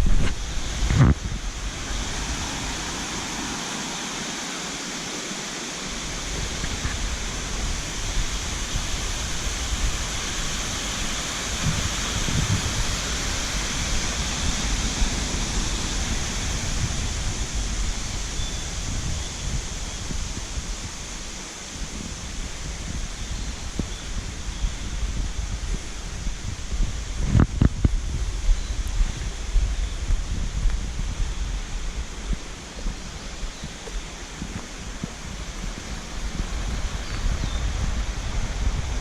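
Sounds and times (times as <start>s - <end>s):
wind rumble on microphone: 0.0s - 5.0s, 5.6s - 39.0s
stream water rushing: 0.0s - 27.2s, 28.0s - 39.0s.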